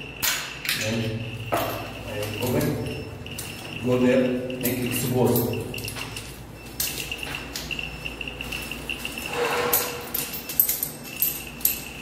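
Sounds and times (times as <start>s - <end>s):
keys jangling: 0.2s - 12.0s.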